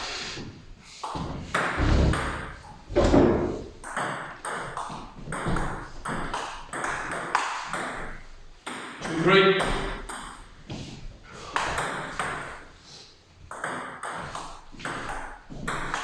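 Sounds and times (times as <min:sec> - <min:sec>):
table tennis ball pinging: 0:01.0 - 0:10.5, 0:11.5 - 0:12.7, 0:13.5 - 0:16.0.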